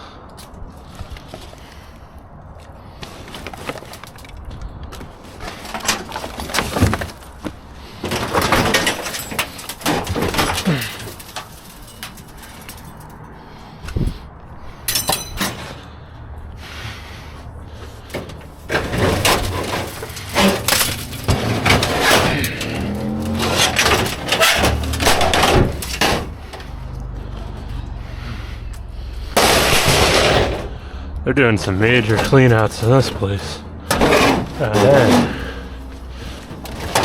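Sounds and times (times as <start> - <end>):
scrap clattering and scraping: 2.9 - 16.0, 17.7 - 30.8, 31.6 - 37.0.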